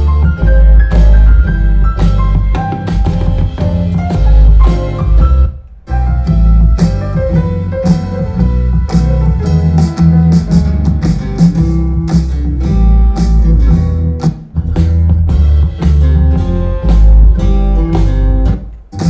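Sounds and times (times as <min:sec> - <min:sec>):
guitar-led beat with drums and bass: 0:00.0 - 0:19.0.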